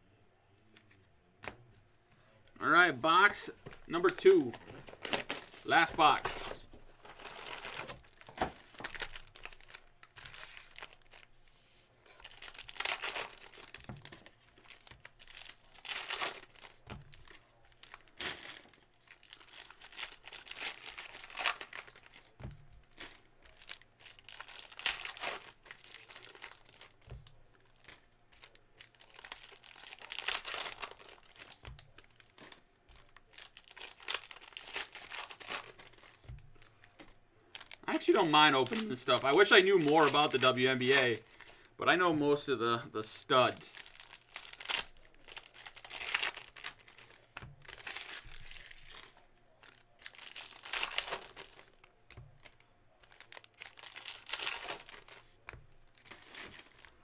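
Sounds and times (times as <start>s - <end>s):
foil wrappers tearing and crinkling: 3.9s - 11.4s, 12.1s - 36.4s, 37.6s - 41.7s, 43.6s - 57.0s.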